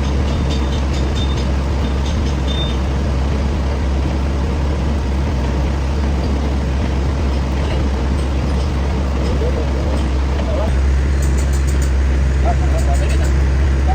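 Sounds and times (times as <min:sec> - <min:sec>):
lathe running: 0:00.0 - 0:13.9.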